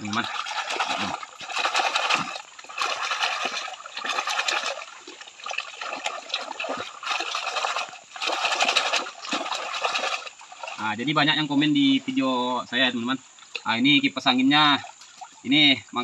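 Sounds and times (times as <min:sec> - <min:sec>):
water sloshing in a pan: 0:00.0 - 0:12.3, 0:14.6 - 0:16.0.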